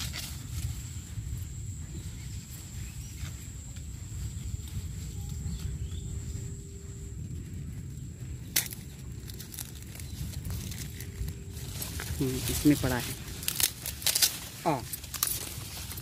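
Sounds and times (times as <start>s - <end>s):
maize leaves rustling: 0.0s - 16.0s
wind rumble on microphone: 0.0s - 16.0s.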